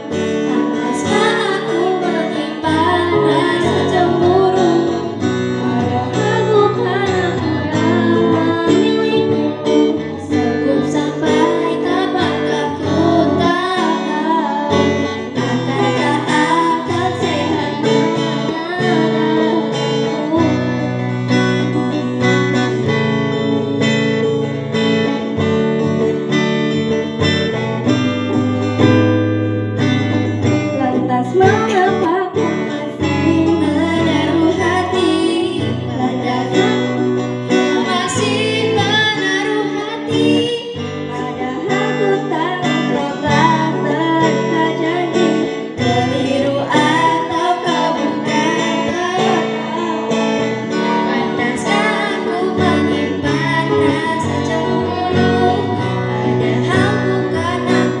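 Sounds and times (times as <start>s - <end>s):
person singing: 0.0s - 24.2s, 30.1s - 58.0s
acoustic guitar chords: 0.0s - 58.0s.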